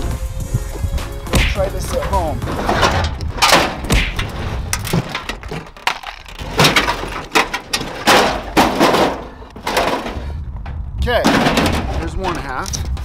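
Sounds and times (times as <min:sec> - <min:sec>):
sheet metal clattering and scraping: 0:01.8 - 0:12.8.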